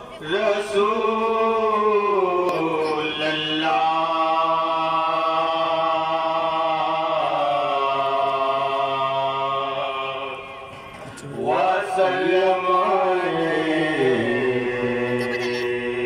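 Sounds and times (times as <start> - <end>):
man singing through a microphone: 0.0 - 16.0.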